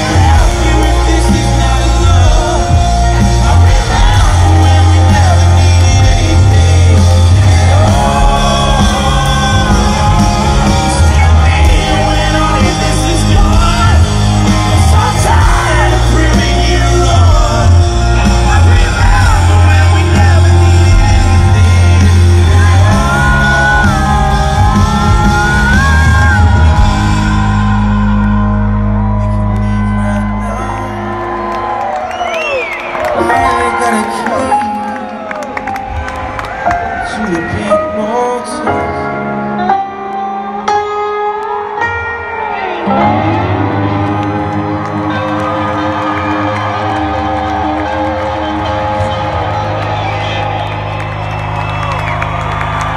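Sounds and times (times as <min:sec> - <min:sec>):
person singing: 0:00.0 - 0:31.6, 0:33.0 - 0:36.1, 0:36.7 - 0:49.9
live rock band: 0:00.0 - 0:52.9.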